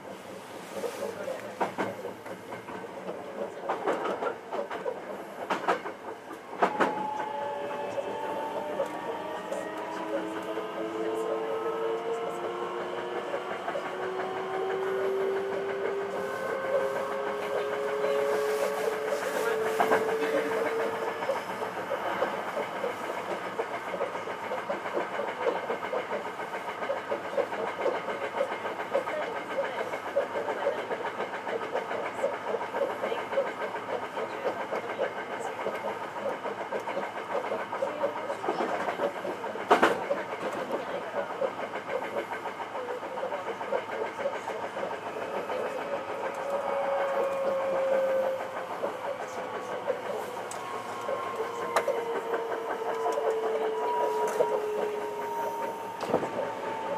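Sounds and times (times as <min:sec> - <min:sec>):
train running noise: 0:00.0 - 0:56.9.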